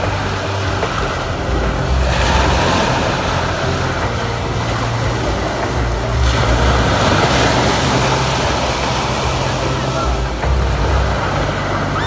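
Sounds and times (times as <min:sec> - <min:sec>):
waves washing over pebbles: 0:00.0 - 0:12.0
wind rumbling on microphone: 0:00.0 - 0:12.0.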